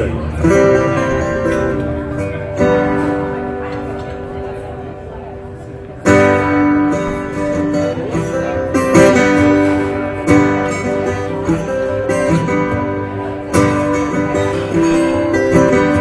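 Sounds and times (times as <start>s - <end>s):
solo guitar strumming and picking: 0.0s - 16.0s.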